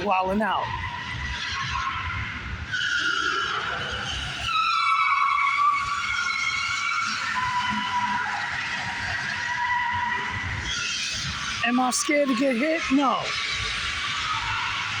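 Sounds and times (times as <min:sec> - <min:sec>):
car tyres squealing: 0:00.0 - 0:15.0.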